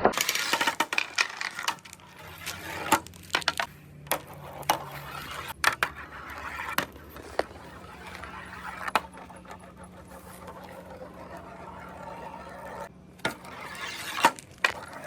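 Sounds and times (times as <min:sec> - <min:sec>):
marbles clacking: 0:00.0 - 0:15.0
marbles rolling on a track: 0:00.0 - 0:15.0.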